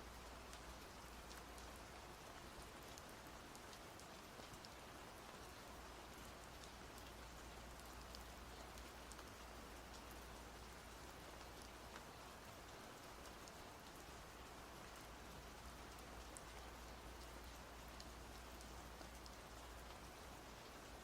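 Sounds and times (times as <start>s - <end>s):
faint rain hiss: 0.0s - 21.0s
raindrop ticks: 0.1s - 21.0s.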